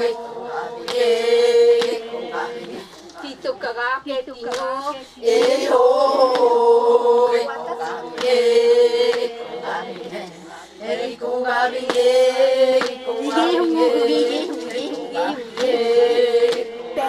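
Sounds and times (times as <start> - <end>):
women chanting together: 0.0 - 17.0.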